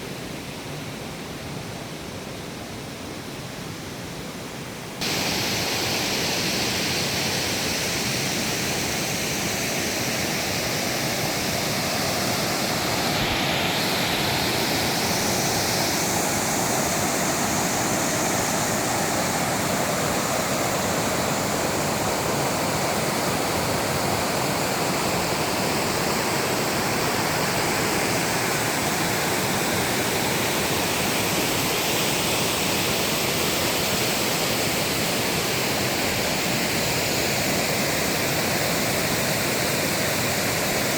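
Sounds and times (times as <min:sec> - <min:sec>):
stream water rushing: 0:05.0 - 0:40.9.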